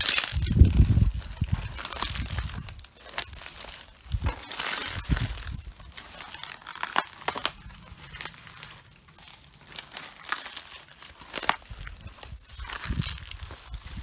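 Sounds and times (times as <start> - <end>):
cabbage leaves crushed underfoot: 0.0 - 14.0.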